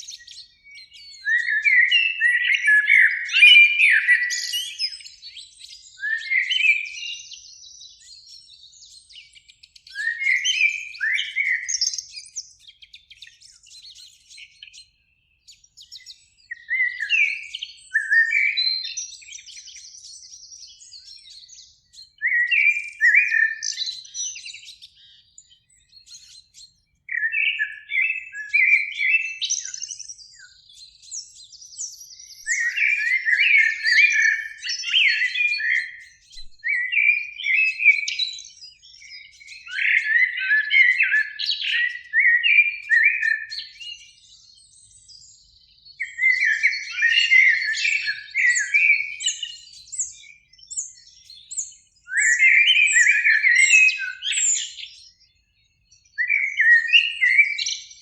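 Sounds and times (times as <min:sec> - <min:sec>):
blackbirds singing: 0:00.0 - 0:58.0.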